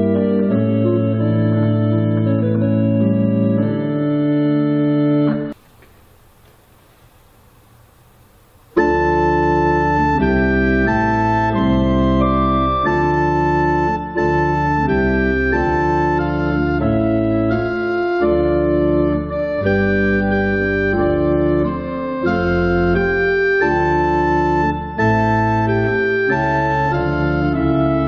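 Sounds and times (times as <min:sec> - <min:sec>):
church organ playing a hymn: 0:00.0 - 0:05.6, 0:08.7 - 0:28.0.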